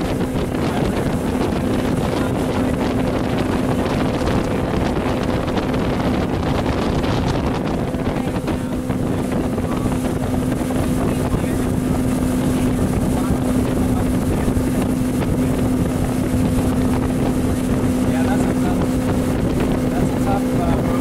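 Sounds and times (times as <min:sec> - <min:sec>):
motorboat engine droning: 0:00.0 - 0:21.0
wind buffeting microphone: 0:00.0 - 0:21.0.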